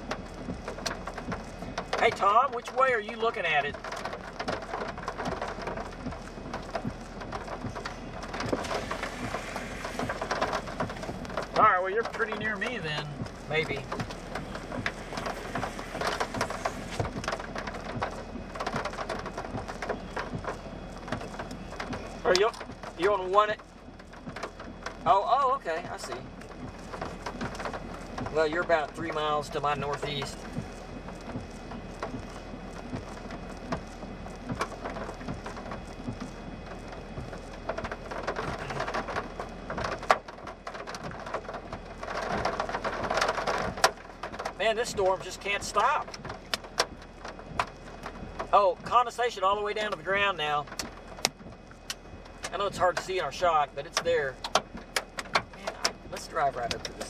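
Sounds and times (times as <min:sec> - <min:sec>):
raindrops tapping on car: 0:00.0 - 0:57.0.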